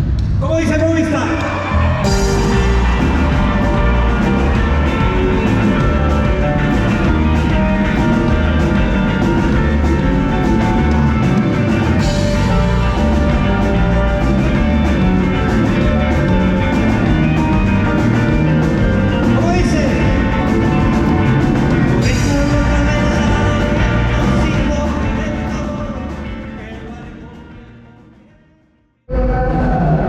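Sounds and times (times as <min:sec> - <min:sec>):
rock music: 0:01.0 - 0:28.1
drum kit beat: 0:01.6 - 0:27.7.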